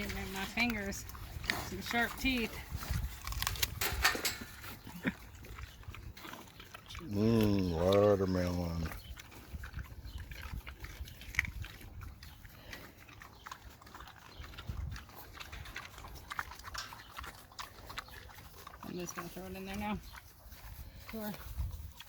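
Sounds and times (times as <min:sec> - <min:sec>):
pig chewing and smacking: 0:00.0 - 0:22.0.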